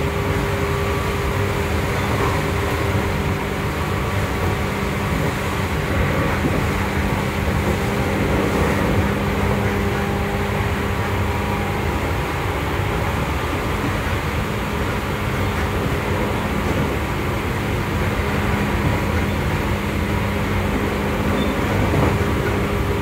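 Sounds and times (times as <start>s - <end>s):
electric train motor hum: 0.0s - 23.0s
wheels rolling on rails: 0.0s - 23.0s.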